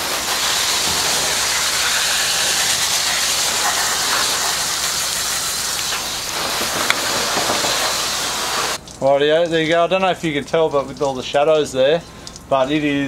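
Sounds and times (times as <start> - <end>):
hose water spray hissing: 0.0 - 12.5
water splashing on engine: 0.0 - 12.5.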